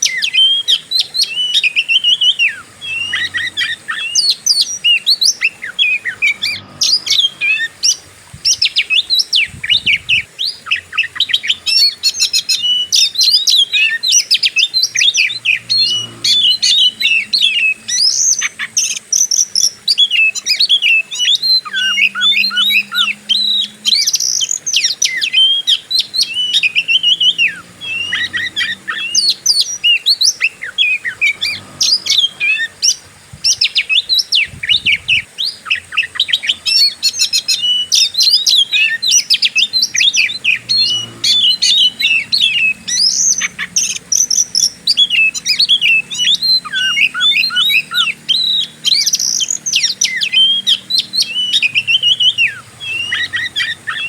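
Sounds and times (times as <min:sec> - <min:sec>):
bird singing fast chirps and trills: 0:00.0 - 0:54.0.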